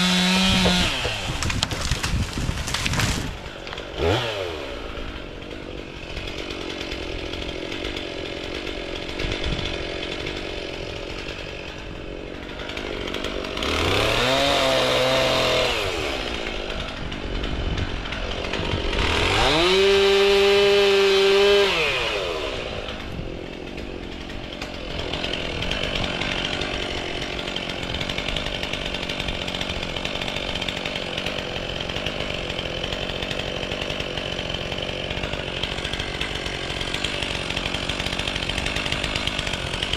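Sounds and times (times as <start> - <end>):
chainsaw engine idling: 0.0 - 39.9
chainsaw revving: 0.0 - 39.9.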